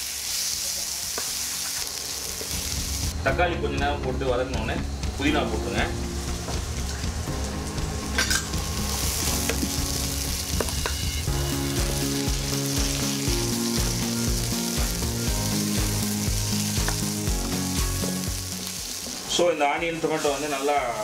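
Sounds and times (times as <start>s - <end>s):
vegetables sizzling in a pan: 0.0s - 3.2s, 5.0s - 21.0s
background music with steady beat: 2.4s - 19.9s.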